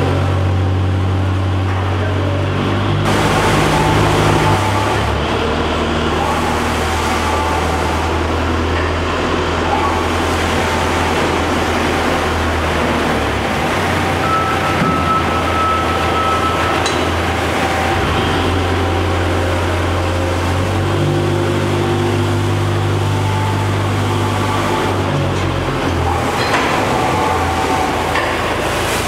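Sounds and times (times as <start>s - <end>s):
electric motors humming: 0.0s - 29.0s.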